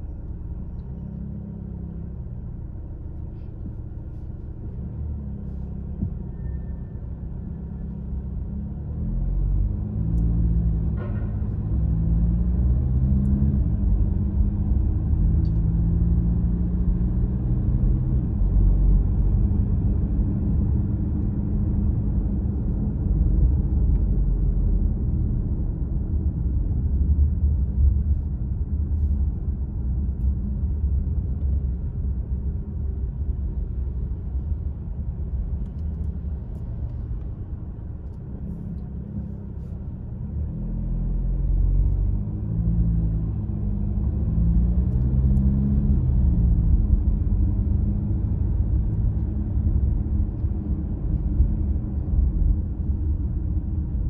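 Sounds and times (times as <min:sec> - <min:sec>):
car engine and road rumble: 0:00.0 - 0:54.0
engine hum: 0:00.0 - 0:54.0.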